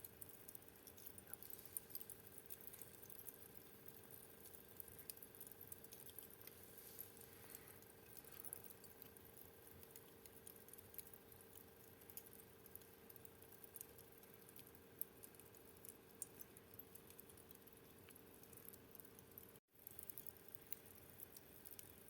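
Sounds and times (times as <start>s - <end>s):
small snaps and pops: 0.0s - 22.0s
fire crackling: 0.1s - 22.0s.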